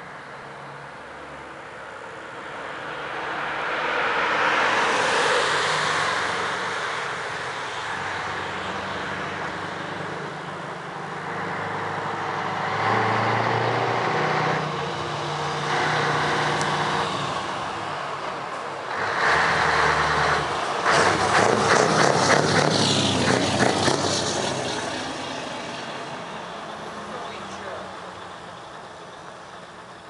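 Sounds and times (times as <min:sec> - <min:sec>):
diesel truck engine: 0:00.0 - 0:30.0
car passing by: 0:02.3 - 0:10.6, 0:11.2 - 0:28.0.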